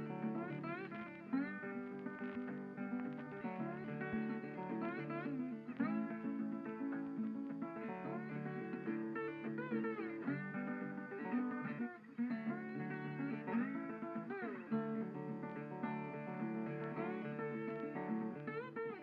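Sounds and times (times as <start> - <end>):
plucked guitar music: 0.0 - 19.0.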